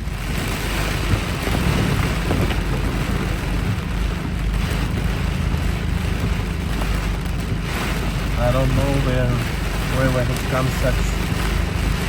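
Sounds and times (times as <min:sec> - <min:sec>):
engine and road rumble: 0:00.0 - 0:12.0
rain and water spray on car: 0:00.0 - 0:12.0.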